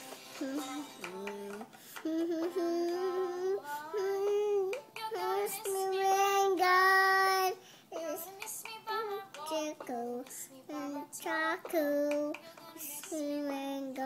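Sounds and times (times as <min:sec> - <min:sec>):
young girl singing: 0:00.0 - 0:14.0.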